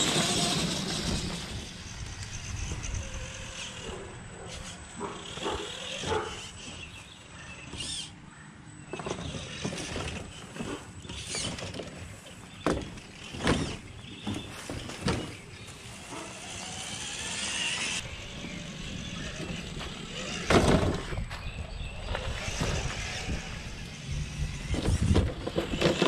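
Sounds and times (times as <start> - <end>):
toy drivetrain whining: 0.0 - 7.1, 8.9 - 26.0.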